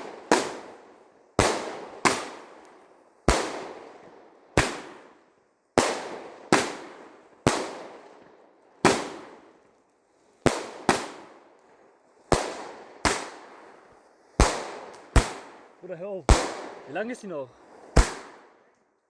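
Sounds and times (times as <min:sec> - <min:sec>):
firework bangs: 0:00.0 - 0:05.2, 0:05.8 - 0:08.2, 0:08.8 - 0:09.4, 0:10.5 - 0:11.4, 0:12.3 - 0:18.6.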